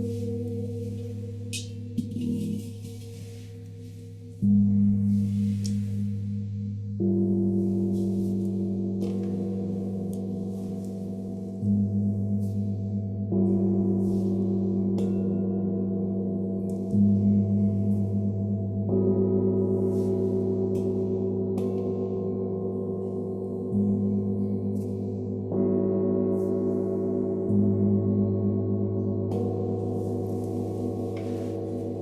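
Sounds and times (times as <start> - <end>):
sound bowls ringing: 0.0 - 32.0.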